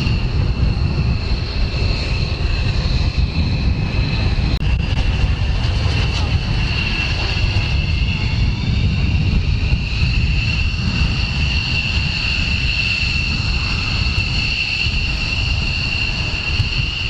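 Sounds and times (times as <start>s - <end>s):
aircraft engine whine: 0.0s - 17.0s.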